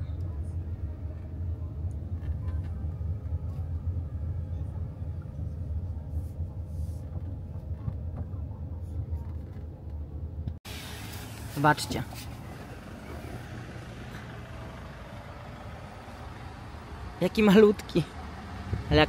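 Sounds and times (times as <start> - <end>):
engine and road noise rumble: 0.0 - 19.0.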